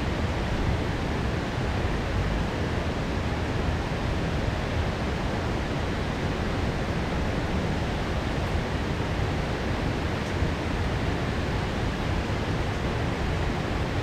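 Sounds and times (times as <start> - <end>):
heavy rain downpour: 0.0 - 14.0.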